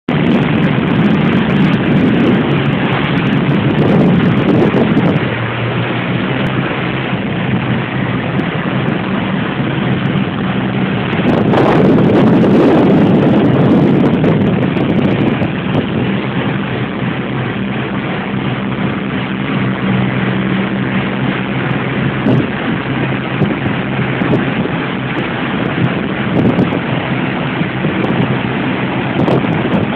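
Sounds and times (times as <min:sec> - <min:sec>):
motorboat engine droning: 0:00.0 - 0:29.9
water rushing: 0:00.0 - 0:29.9
wind buffeting microphone: 0:00.1 - 0:29.9.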